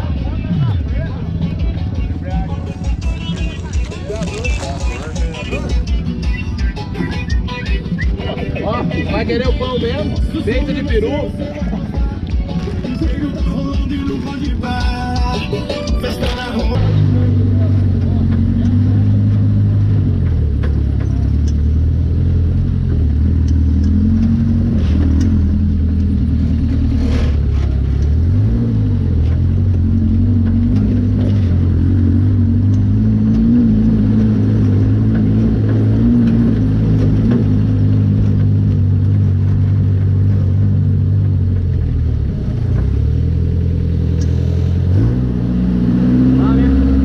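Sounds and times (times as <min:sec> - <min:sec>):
buggy engine running: 0:00.0 - 0:47.0.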